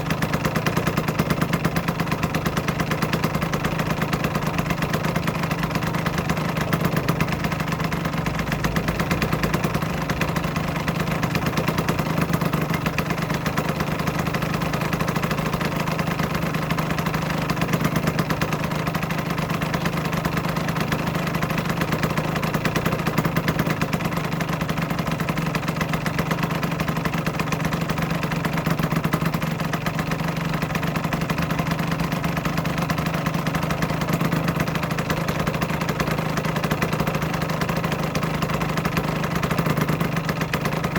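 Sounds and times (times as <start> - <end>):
two-stroke engine idling: 0.0 - 40.9.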